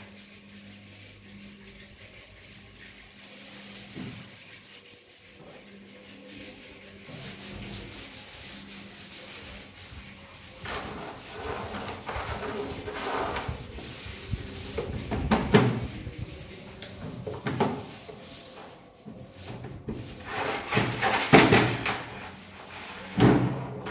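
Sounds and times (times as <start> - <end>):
palms rubbing powder on wood: 0.0 - 23.2.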